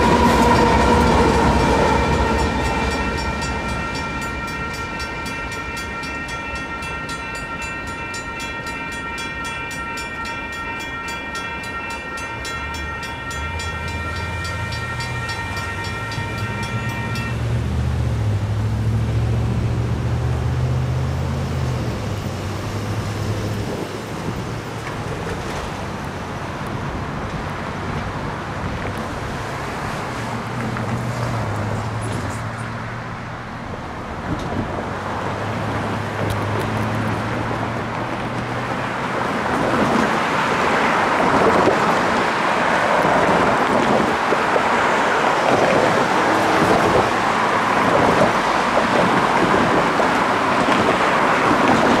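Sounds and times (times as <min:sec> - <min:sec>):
freight train rumbling: 0:00.0 - 0:52.0.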